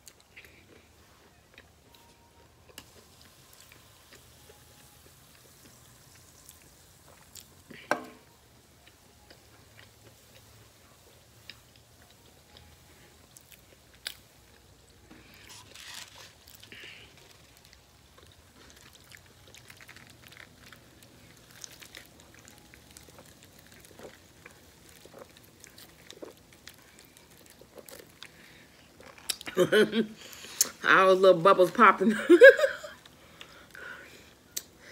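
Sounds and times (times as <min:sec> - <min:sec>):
person chewing: 0:00.0 - 0:07.9, 0:08.8 - 0:29.6, 0:33.0 - 0:34.8.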